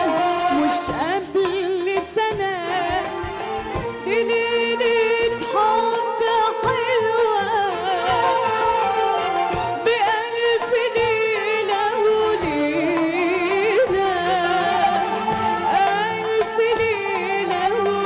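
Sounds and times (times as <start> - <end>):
hand drums: 0.0 - 18.0
woman singing: 0.0 - 18.0.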